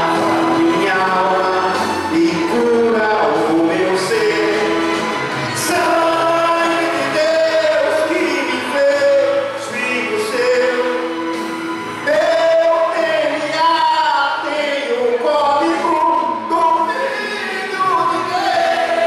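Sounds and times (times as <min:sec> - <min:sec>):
man singing a hymn: 0:00.0 - 0:19.0.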